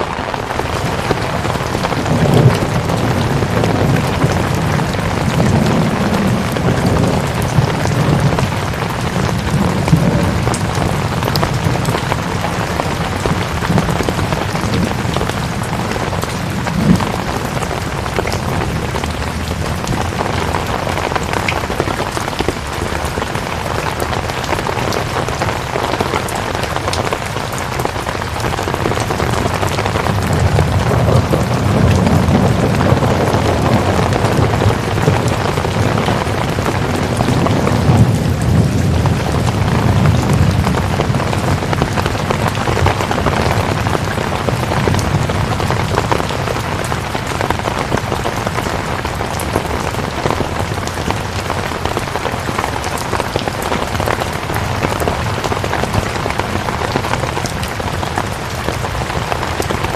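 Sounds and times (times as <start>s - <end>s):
heavy rainfall: 0.0s - 59.9s.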